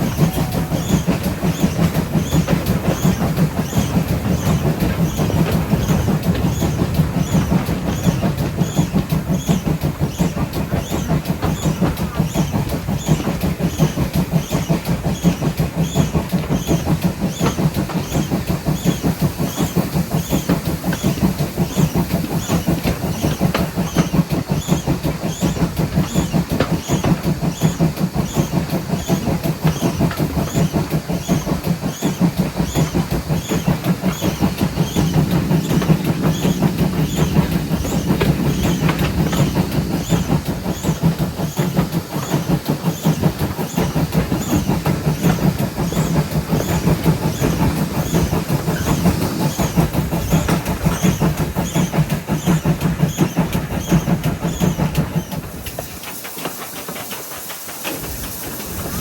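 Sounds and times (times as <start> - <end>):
locomotive hissing pulse: 0.0 - 59.0
steam locomotive running: 0.0 - 59.0
train wheels on rails: 0.0 - 59.0.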